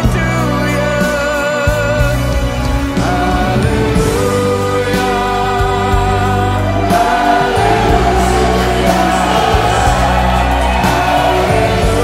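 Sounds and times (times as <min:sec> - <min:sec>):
song with long held note: 0:00.0 - 0:12.0.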